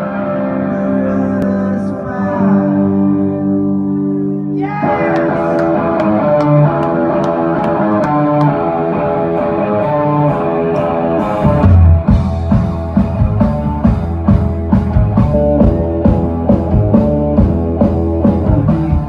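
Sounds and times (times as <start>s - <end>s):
rock band with electric guitars: 0.0s - 19.0s.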